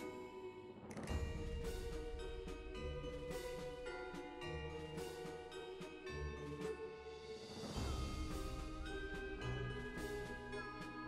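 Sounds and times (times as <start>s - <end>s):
instrumental music with percussion: 0.8s - 11.0s.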